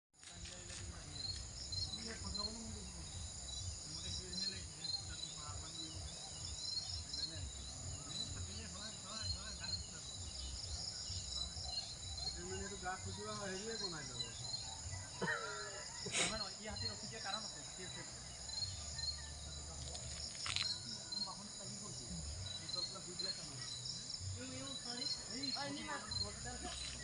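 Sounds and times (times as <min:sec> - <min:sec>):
crickets trilling: 0:00.2 - 0:27.0
faint distant voices: 0:00.2 - 0:27.0
insect chirps: 0:00.2 - 0:27.0.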